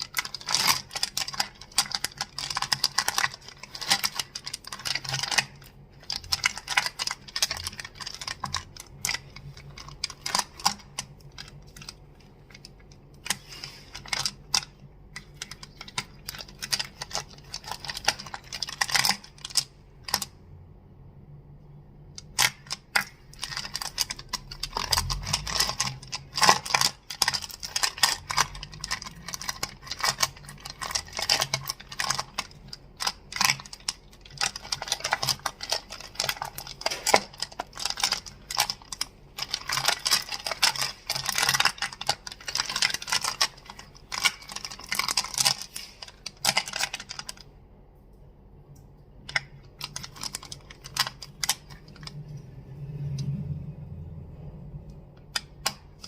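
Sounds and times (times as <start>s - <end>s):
crystals clicking and clacking: 0.0s - 20.3s, 22.1s - 47.5s.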